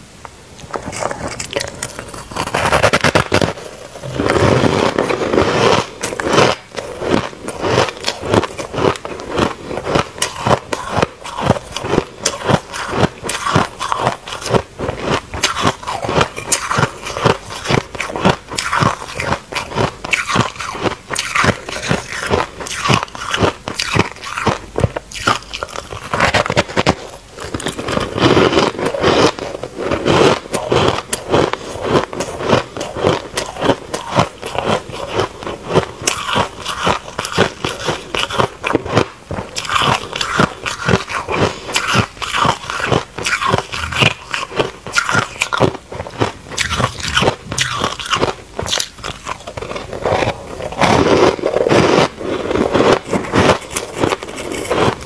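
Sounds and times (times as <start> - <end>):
crunching shaved ice: 0.7 - 55.0.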